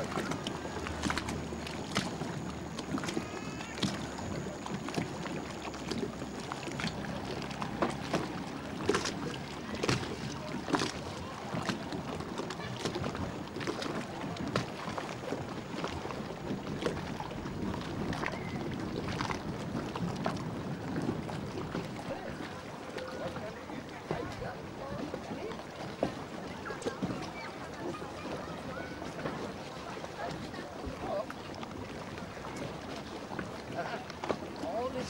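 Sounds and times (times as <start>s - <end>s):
boat engine low rumble: 0.0s - 35.0s
water slapping against hull: 0.0s - 35.0s.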